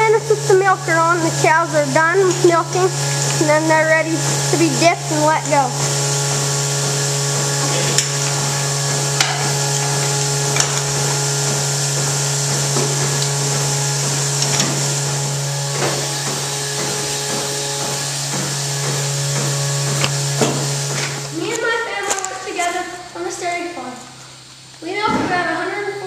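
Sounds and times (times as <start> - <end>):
milking machine vacuum hum: 0.0 - 26.0.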